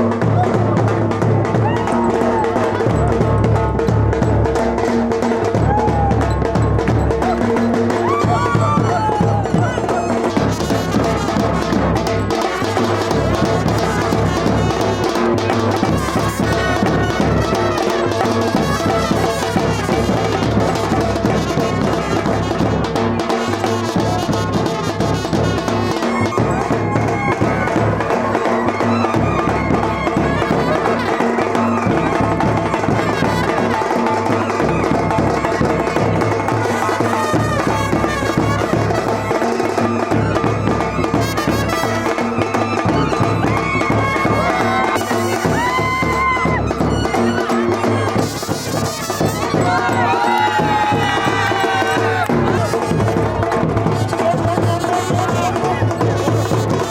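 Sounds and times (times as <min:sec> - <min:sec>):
music with brass and drums: 0:00.0 - 0:56.9.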